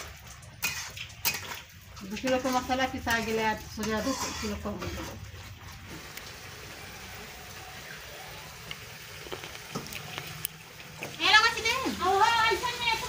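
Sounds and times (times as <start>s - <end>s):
gravy bubbling in a pan: 0.0s - 13.0s
wood fire crackling: 0.0s - 13.0s.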